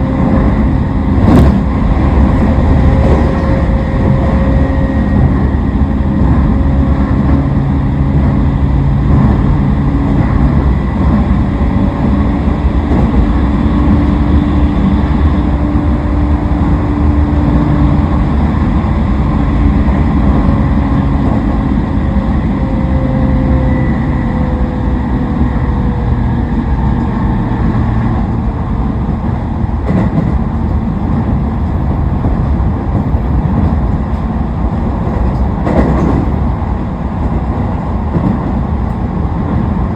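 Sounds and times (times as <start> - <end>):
wheel-and-rail rumble: 0.0 - 39.9.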